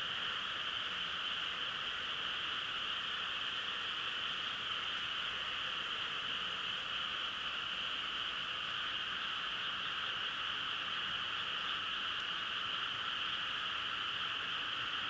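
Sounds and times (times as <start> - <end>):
chorus of frogs calling: 0.0 - 15.0.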